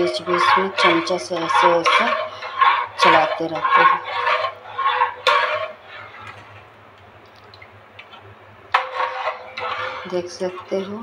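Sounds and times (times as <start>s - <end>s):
ladle scraping a pot: 0.0s - 6.7s, 8.1s - 11.0s.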